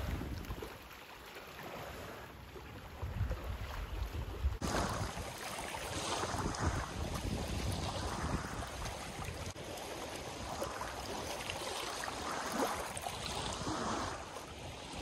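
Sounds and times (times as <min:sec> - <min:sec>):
waves lapping against rocks: 0:00.0 - 0:15.0.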